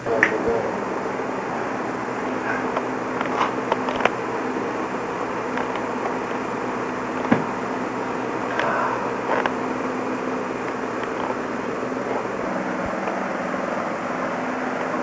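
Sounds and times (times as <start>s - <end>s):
camcorder hiss and hum: 0.0s - 15.0s.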